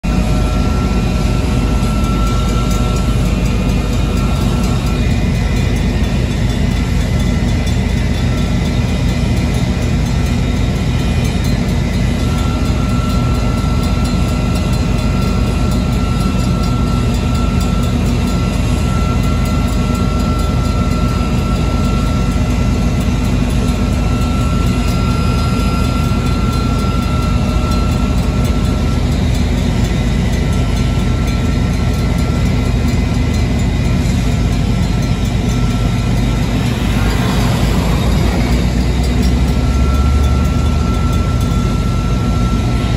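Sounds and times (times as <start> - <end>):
crossing warning bell ringing: 0.0 - 42.9
heavy steady low rumble: 0.0 - 42.9.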